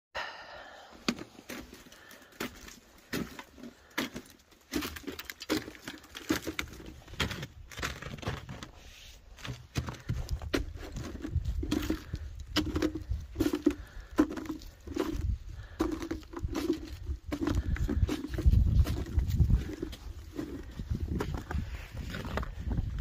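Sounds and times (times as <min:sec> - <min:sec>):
footsteps crunching on snowy stairs: 0:01.0 - 0:23.0.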